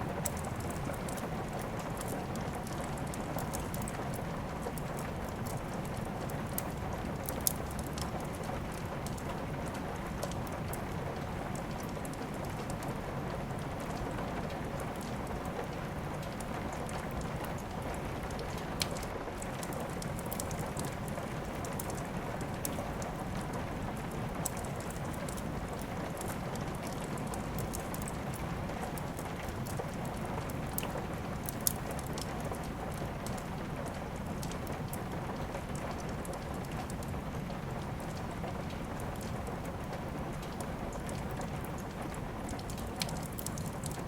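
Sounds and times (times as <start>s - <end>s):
crackling fireplace: 0.0s - 44.0s
steady rain: 0.0s - 44.0s.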